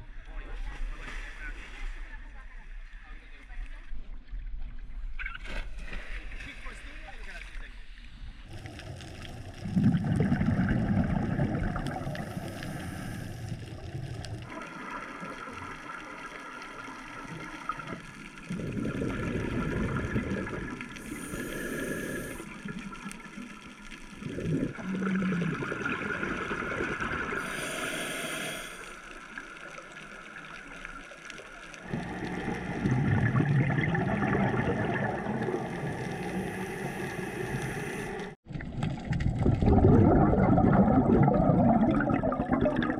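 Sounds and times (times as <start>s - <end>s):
underwater bubbles gurgling: 8.5s - 42.9s.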